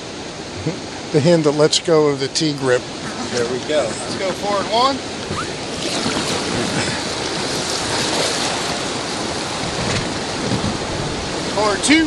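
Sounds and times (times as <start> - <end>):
river whitewater rushing: 0.0 - 12.0.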